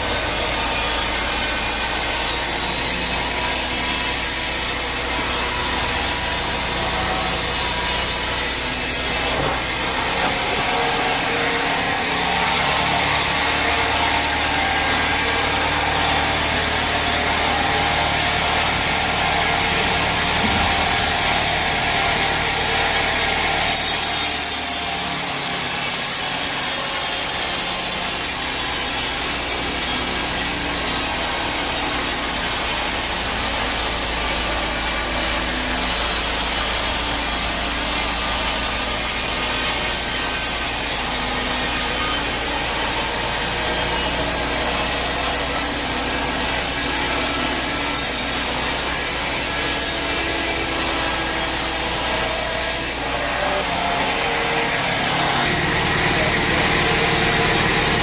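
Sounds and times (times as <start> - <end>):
bandsaw cutting through log: 0.0 - 58.0.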